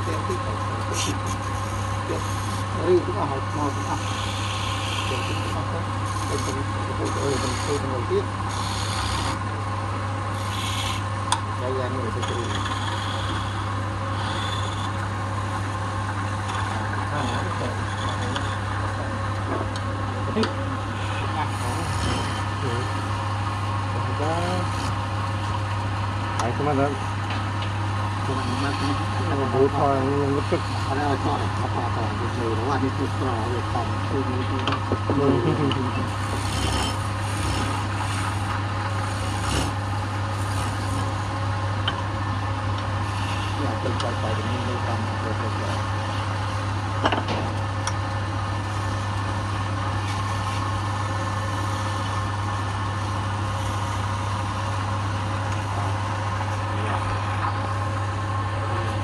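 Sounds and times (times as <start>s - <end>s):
chisel scraping spinning wood: 0.0s - 59.0s
wood lathe motor hum: 0.0s - 59.0s.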